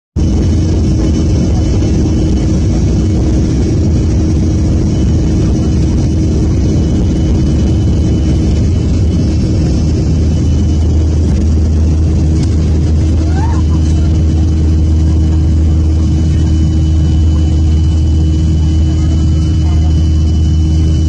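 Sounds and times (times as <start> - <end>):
jet engines rumbling: 0.2 - 21.0
steady engine tones: 0.2 - 21.0.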